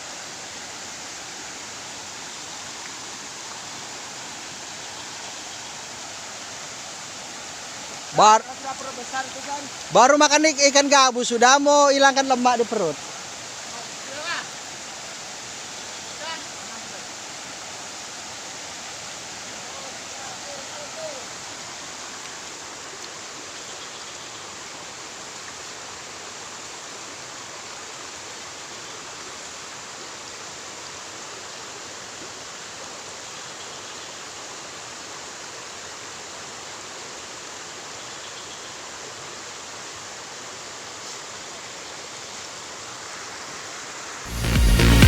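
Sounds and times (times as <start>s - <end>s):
flowing water rushing: 0.0s - 45.0s.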